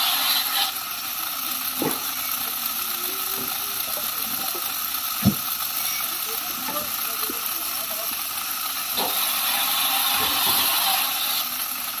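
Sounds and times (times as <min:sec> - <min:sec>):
circular saw cutting log: 0:00.0 - 0:12.0.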